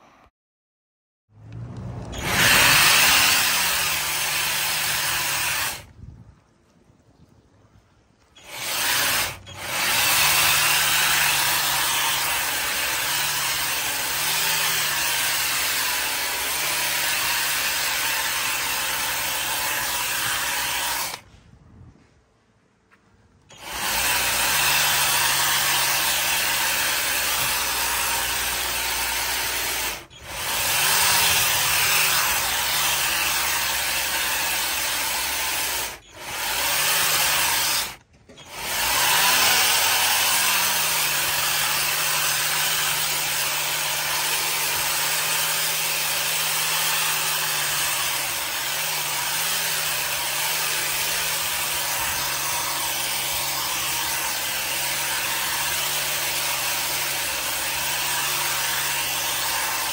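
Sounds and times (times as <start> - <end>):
motor whirring: 1.5 - 5.9, 8.4 - 21.2, 23.5 - 59.9.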